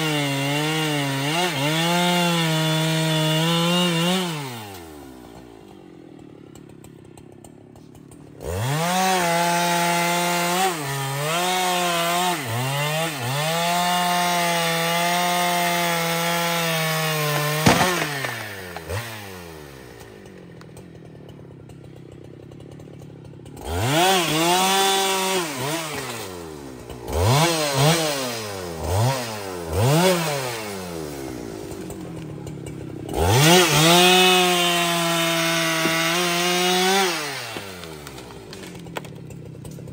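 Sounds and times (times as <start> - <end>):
chainsaw cutting through log: 0.0 - 39.9
chainsaw idling and revving: 0.0 - 39.9.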